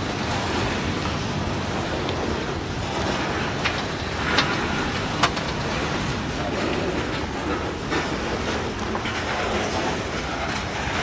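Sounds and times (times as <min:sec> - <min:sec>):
train wheels on track: 0:02.0 - 0:11.0.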